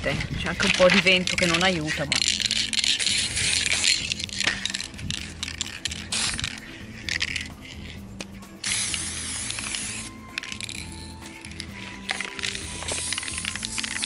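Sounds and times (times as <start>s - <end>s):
spray can clicking and rattling: 0.5s - 14.0s
aerosol spray paint hissing: 0.7s - 14.0s.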